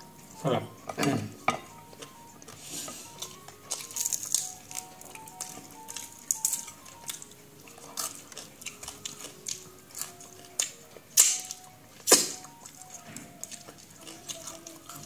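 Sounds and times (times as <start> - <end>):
crunchy chewing: 1.9 - 15.0.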